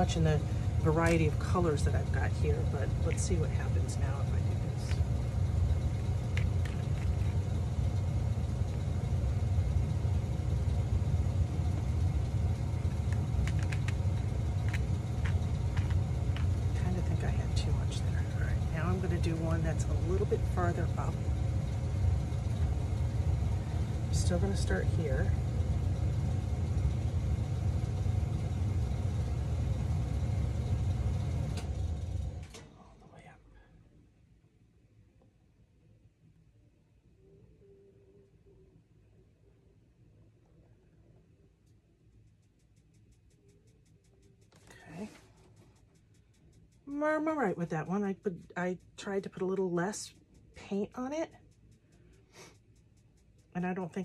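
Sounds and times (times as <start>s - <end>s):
low background rumble: 0.0s - 54.0s.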